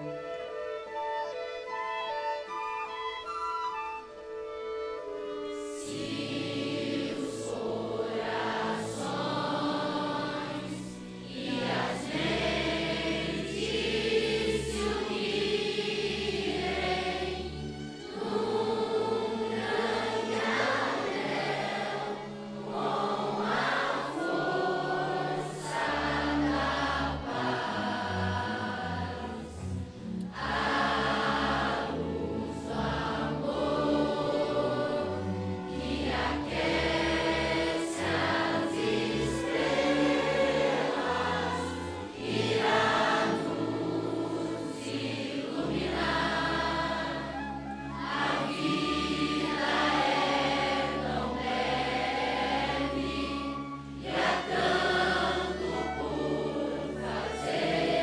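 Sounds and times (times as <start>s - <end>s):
string orchestra: 0.0s - 58.0s
choir of young voices singing: 4.5s - 58.0s.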